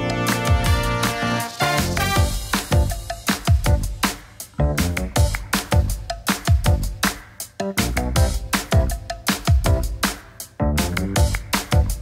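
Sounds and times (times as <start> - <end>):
upbeat music with kick drum: 0.0 - 12.0.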